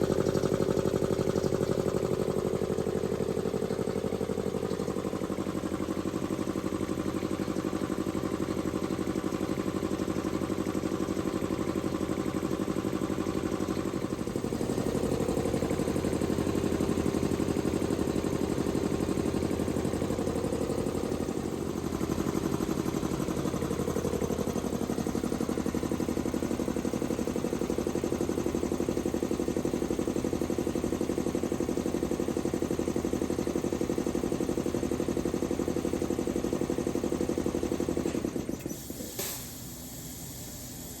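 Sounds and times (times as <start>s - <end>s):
air compressor running: 0.0s - 41.0s.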